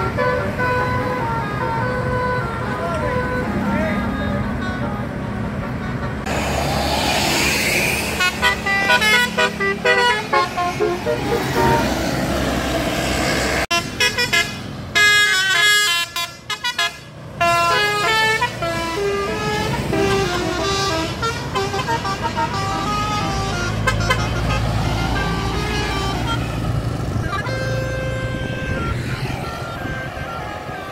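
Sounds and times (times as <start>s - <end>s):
bus horn playing a tune: 0.0s - 6.3s, 8.1s - 12.6s, 13.7s - 30.9s
bus engine running: 0.0s - 30.9s.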